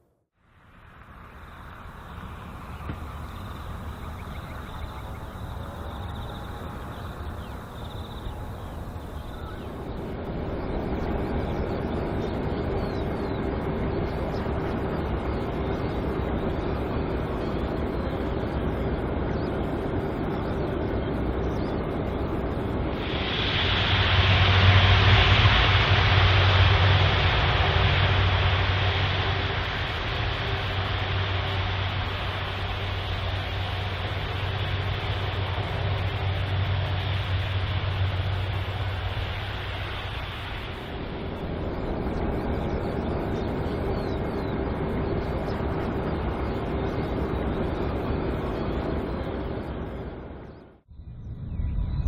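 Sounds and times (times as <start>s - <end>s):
jet engines passing: 0.5s - 50.8s.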